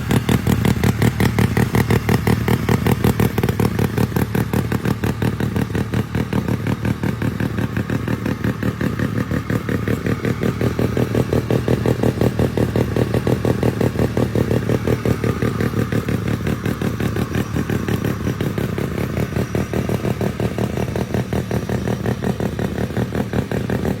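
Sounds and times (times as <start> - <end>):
mini bike engine running: 0.0 - 24.0.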